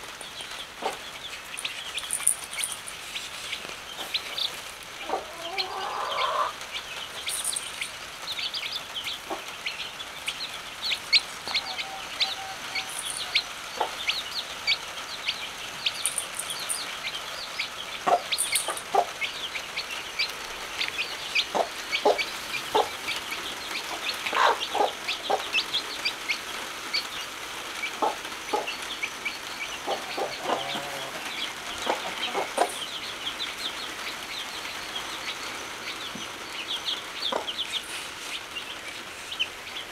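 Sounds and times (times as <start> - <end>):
chicks peeping: 0.0 - 39.9
hen clucking: 0.4 - 2.7, 3.4 - 39.8.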